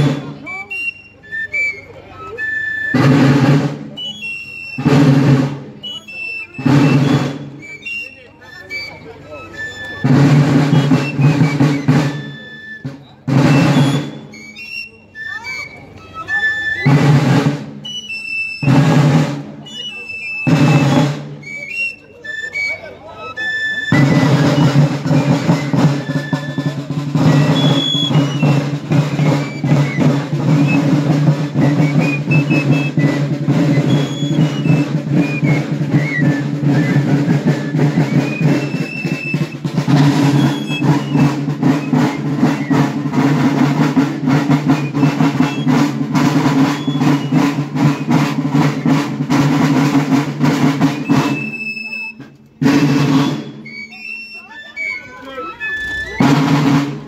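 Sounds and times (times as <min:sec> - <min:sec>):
marching drum rolls: 0:00.0 - 0:00.9, 0:02.9 - 0:08.1, 0:08.7 - 0:14.9, 0:15.5 - 0:21.9, 0:23.4 - 0:57.0
shrill fife tune: 0:02.6 - 0:56.8.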